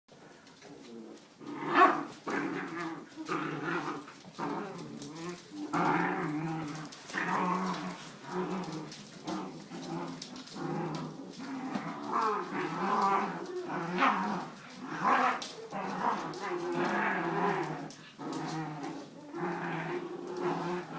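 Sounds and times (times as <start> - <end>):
puppies growling: 0.1 - 20.9.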